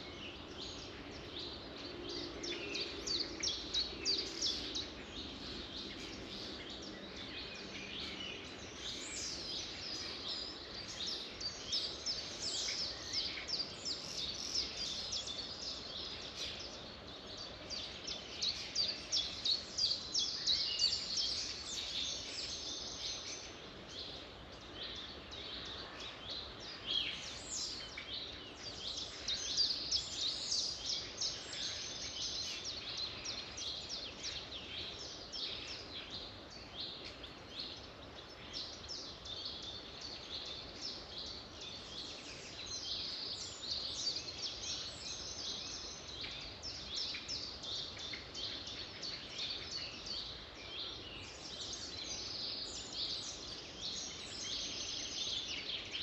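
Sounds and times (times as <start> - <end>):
faint background hiss: 0.0 - 56.0
small birds chirping: 0.0 - 56.0.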